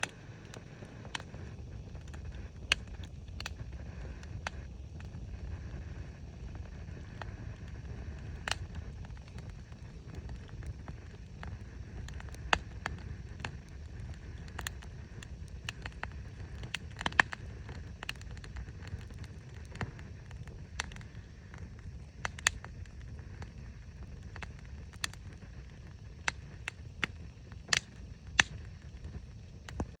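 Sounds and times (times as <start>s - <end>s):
bonfire crackling and popping: 0.0s - 30.0s
steady low rumble: 0.0s - 30.0s.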